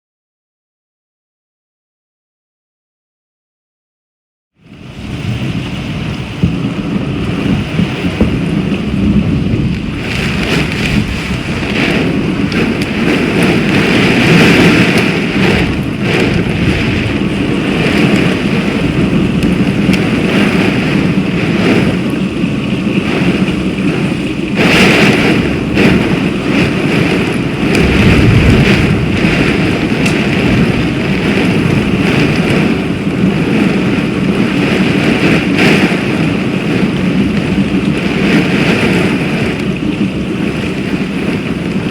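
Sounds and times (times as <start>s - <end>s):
strong wind gusts: 4.6s - 41.9s
torrential rain pouring: 4.6s - 41.9s
low rumbles of thunder: 4.9s - 41.9s.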